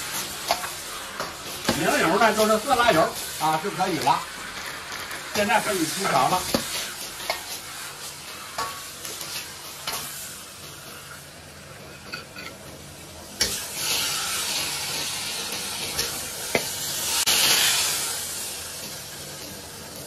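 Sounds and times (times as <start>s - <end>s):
stir-fry sizzling in a wok: 0.0s - 20.0s.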